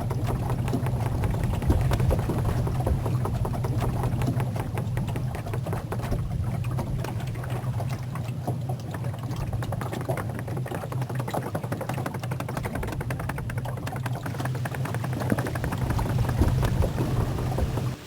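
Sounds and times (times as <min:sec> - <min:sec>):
small boat motor running: 0:00.0 - 0:18.0
water splashing against hull: 0:00.0 - 0:18.0.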